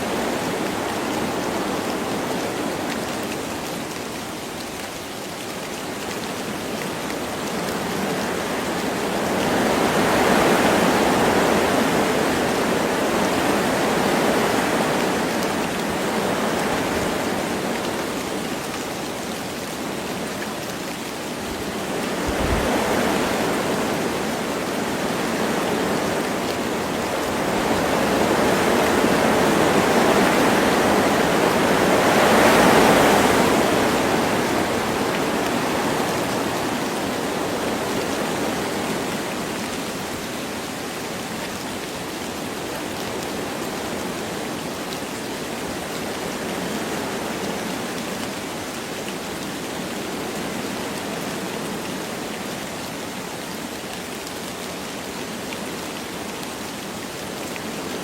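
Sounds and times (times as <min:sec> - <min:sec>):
light rain: 0:00.0 - 0:58.0
wind through forest trees: 0:00.0 - 0:58.0.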